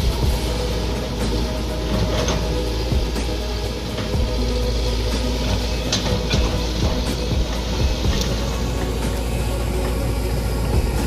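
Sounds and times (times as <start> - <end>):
background music: 0.0 - 11.0
diesel excavator engine running: 0.0 - 11.0.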